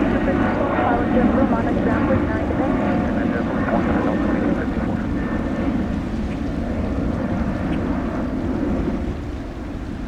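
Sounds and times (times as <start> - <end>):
jet engines rumbling: 0.0 - 9.2.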